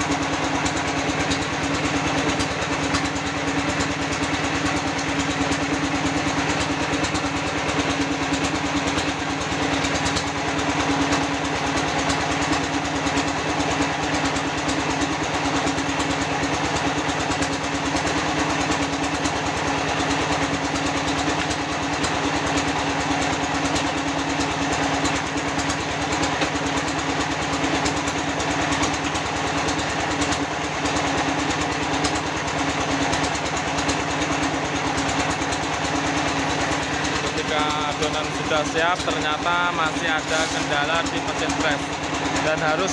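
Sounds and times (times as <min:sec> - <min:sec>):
small machine engine running: 0:00.0 - 0:42.9.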